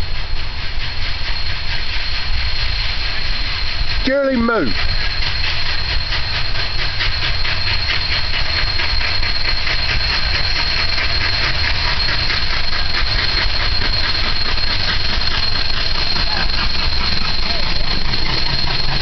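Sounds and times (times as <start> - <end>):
steam locomotive chuffing: 0.0 - 19.0
thin high-pitched squeal: 1.0 - 19.0.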